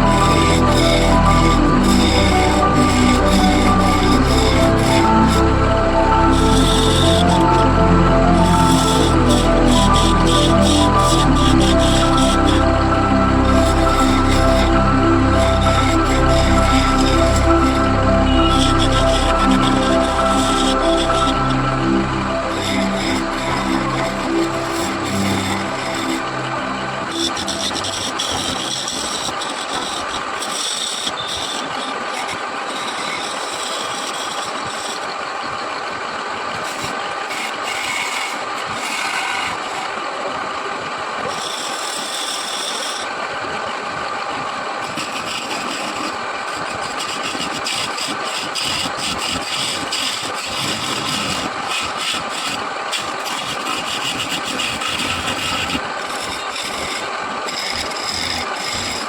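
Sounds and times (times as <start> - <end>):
turning tool scraping wood: 0.0 - 35.2, 36.5 - 40.1, 41.2 - 43.3, 44.8 - 59.0
wood lathe running: 0.0 - 59.0.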